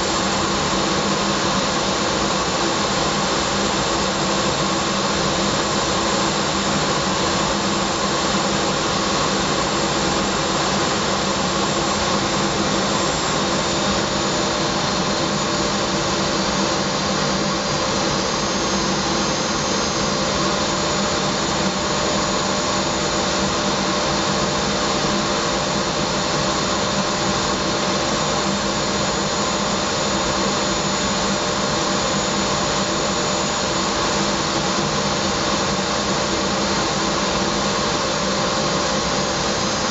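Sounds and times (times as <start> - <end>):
jet cockpit engine and airflow: 0.0 - 39.9.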